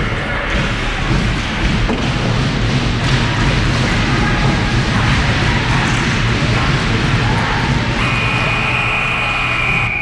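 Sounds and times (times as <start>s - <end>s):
music over public address: 0.0s - 10.0s.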